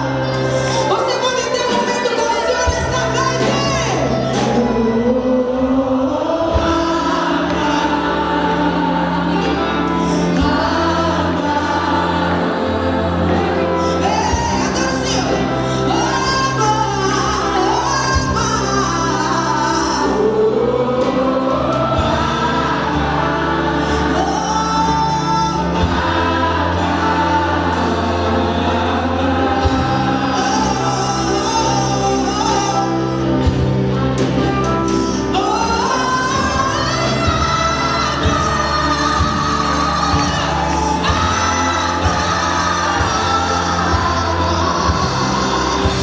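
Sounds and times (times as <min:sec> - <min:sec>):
low bass notes: 0:00.0 - 0:46.0
voices singing gospel: 0:00.0 - 0:46.0.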